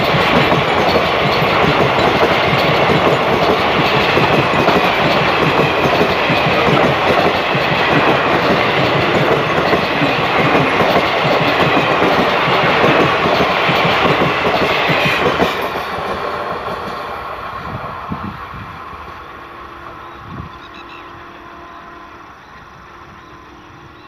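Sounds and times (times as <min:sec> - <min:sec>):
train wheels clattering on rails: 0:00.0 - 0:19.4.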